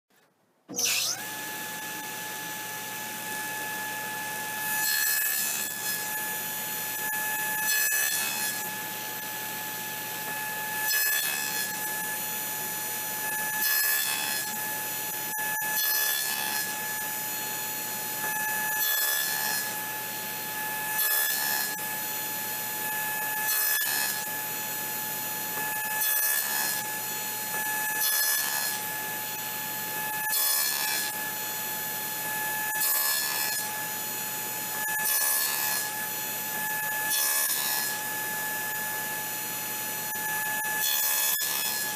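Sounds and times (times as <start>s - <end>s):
table saw cutting wood: 0.7s - 41.9s.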